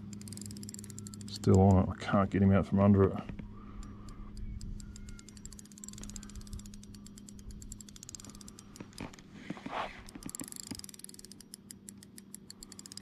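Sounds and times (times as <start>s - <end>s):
fishing reel ticking rapidly: 0.0s - 2.0s, 3.4s - 13.0s
low steady hum: 0.0s - 13.0s.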